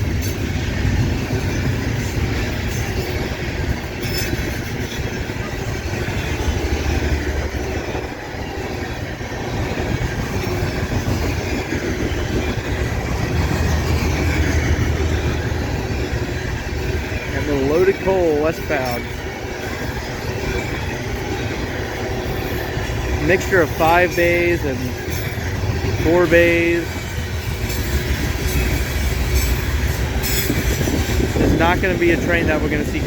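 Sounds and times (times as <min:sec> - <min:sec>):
freight train rolling past: 0:00.0 - 0:33.0
steel wheels on rails: 0:00.0 - 0:33.0.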